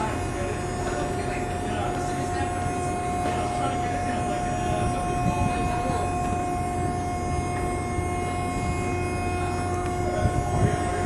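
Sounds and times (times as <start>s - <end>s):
ferry engines droning: 0.0s - 11.0s
held machine tones: 0.0s - 11.0s.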